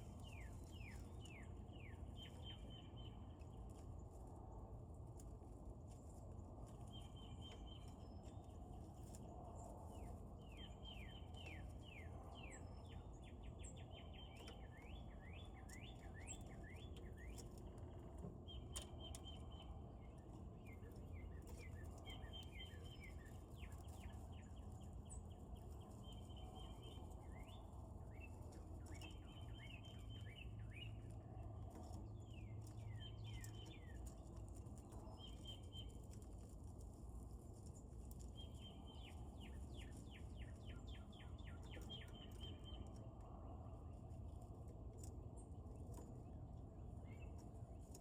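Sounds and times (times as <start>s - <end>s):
small bird singing: 0.0s - 4.6s, 5.2s - 48.0s
low outdoor rumble: 0.0s - 48.0s.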